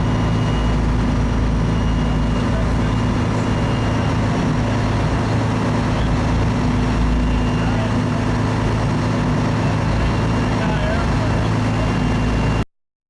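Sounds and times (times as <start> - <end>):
boat engine droning: 0.0 - 12.6.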